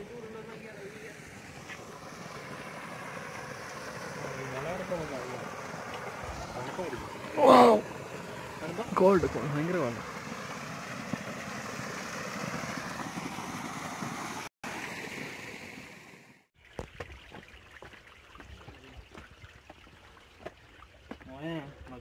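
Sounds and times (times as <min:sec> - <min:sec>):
water rushing down a channel: 0:00.0 - 0:22.0.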